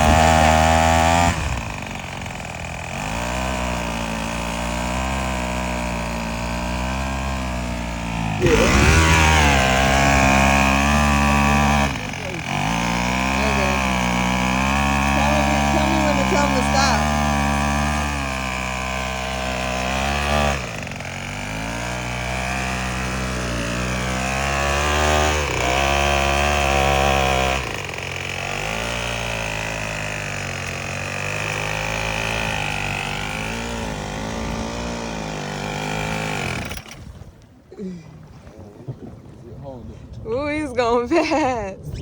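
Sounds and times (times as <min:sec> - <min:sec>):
string trimmer engine revving: 0:00.0 - 0:37.3.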